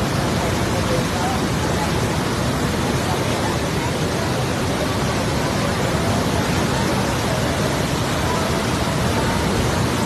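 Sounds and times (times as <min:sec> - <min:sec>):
river rushing in flood: 0:00.0 - 0:10.0.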